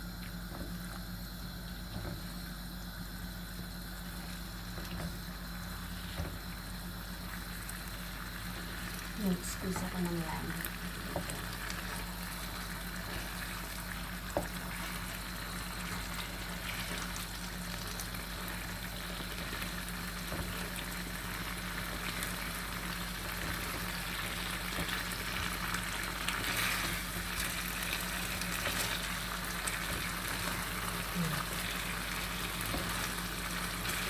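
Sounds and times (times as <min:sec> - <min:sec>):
food sizzling in a pan: 0:05.5 - 0:34.0.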